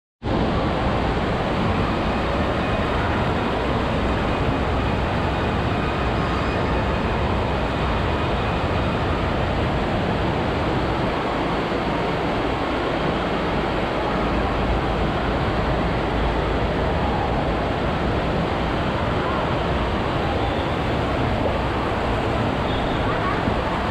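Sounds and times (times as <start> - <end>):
water rushing through slide channel: 0.3 - 23.9.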